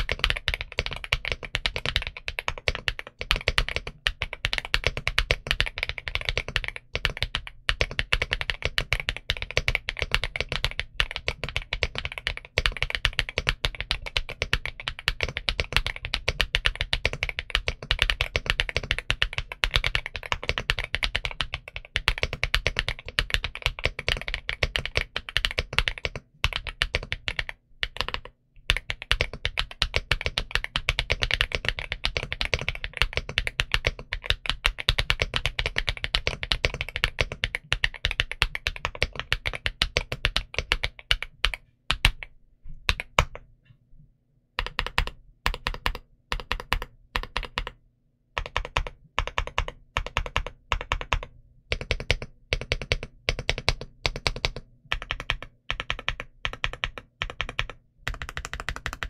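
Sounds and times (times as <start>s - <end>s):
mechanical keyboard typing: 0.0s - 42.3s, 42.9s - 43.4s, 44.6s - 47.8s, 48.4s - 59.0s.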